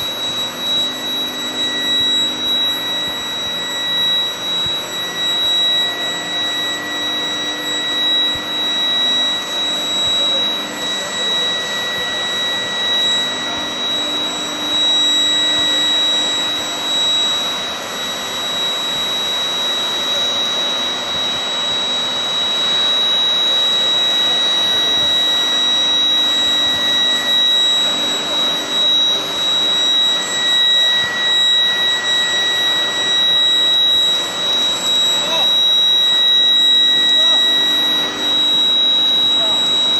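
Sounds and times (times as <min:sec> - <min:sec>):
high-pitched whine: 0:00.0 - 0:39.9
industrial machinery noise: 0:00.0 - 0:39.9.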